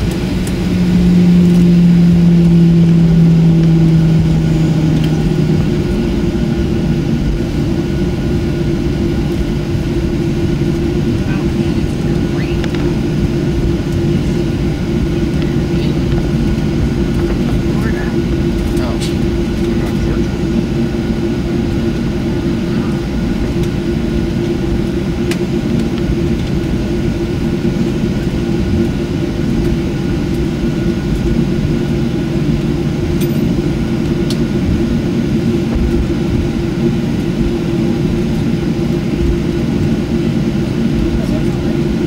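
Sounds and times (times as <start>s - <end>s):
aircraft cabin engine rumble: 0.0s - 42.0s.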